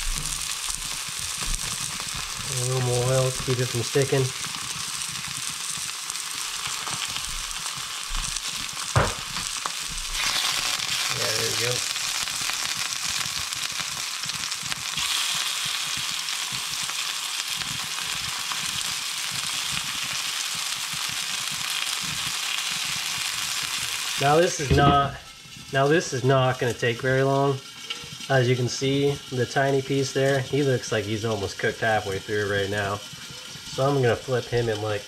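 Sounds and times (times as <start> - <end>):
meat sizzling in hot oil: 0.0 - 35.0.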